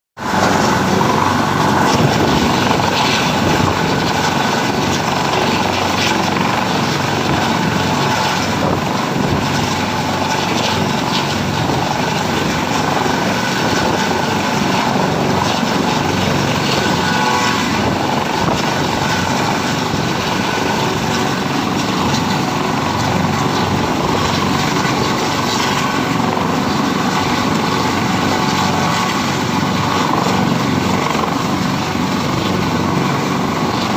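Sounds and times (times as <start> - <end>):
helicopter running: 0.2 - 33.9.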